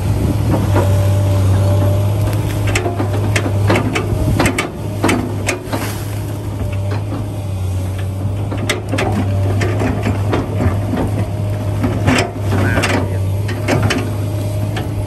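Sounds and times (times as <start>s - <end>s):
low motor hum: 0.0s - 15.0s
irregular clicks and knocks: 2.2s - 5.9s, 6.6s - 15.0s.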